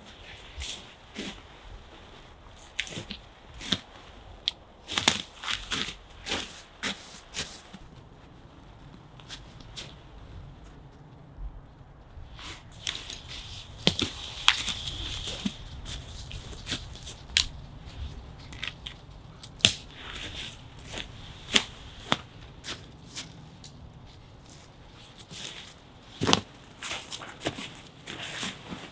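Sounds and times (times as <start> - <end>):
footsteps in crusty snow: 0.0 - 11.2, 12.1 - 28.9
hammock fabric rustling: 0.0 - 28.9.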